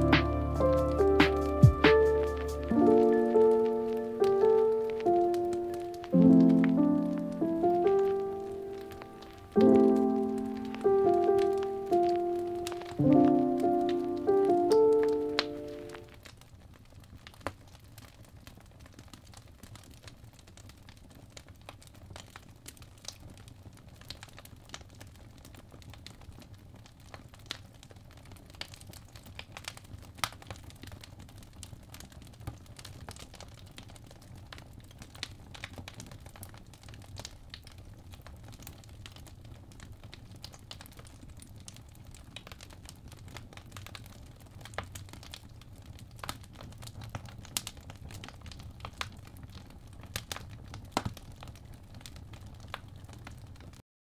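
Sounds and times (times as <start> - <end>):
fire crackling and popping: 0.0 - 53.8.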